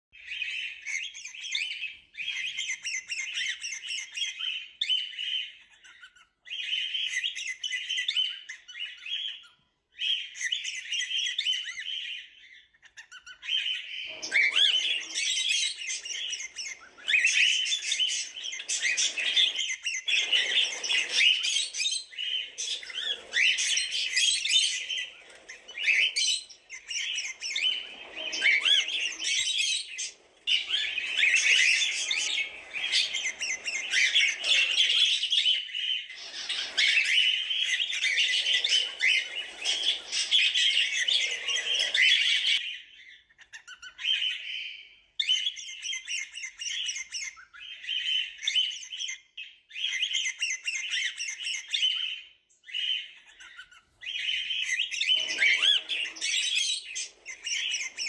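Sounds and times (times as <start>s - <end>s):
cockatiels chirping: 0.2s - 58.0s
squawking bird calls: 0.2s - 58.0s.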